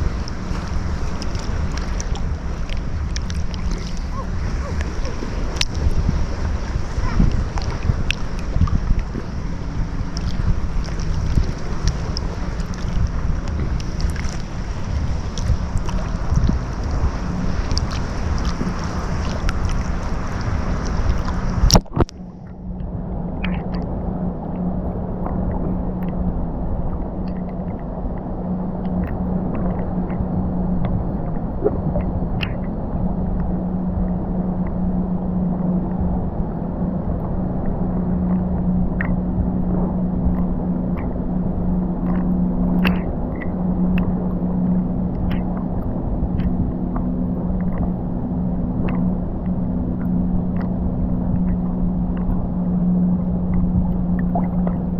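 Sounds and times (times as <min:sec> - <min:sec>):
boat motor hum: 0:00.0 - 0:54.9
ocean surf: 0:00.0 - 0:54.9.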